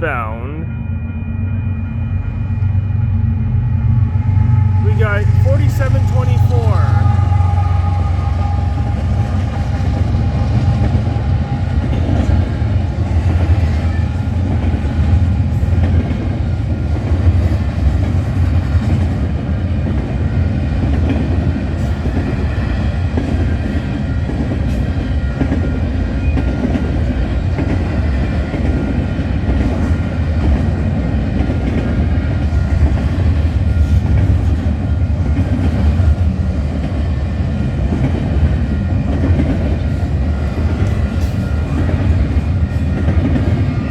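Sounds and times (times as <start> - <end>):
freight train rumbling: 0.0 - 43.9.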